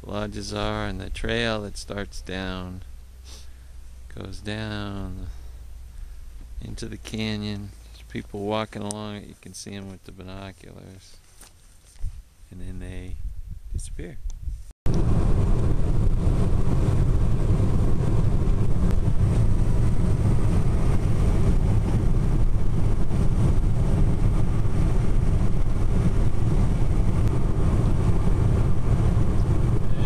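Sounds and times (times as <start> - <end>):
car driving on highway: 0.0 - 10.3, 14.9 - 30.0.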